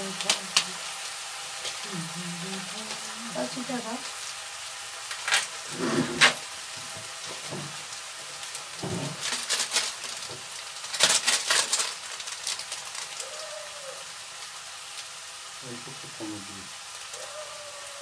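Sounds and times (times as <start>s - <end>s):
oil crackling spatters: 0.0s - 18.0s
onion sizzling in hot oil: 0.0s - 18.0s.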